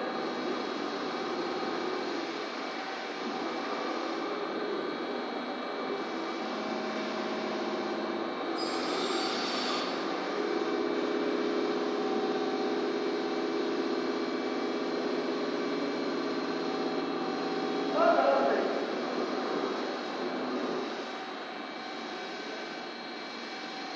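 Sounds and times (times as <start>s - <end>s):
steady machine hum: 0.0s - 23.9s.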